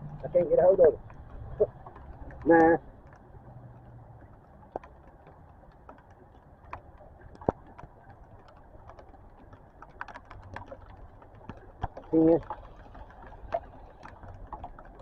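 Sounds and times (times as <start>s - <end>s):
raindrops tapping: 0.0s - 15.0s.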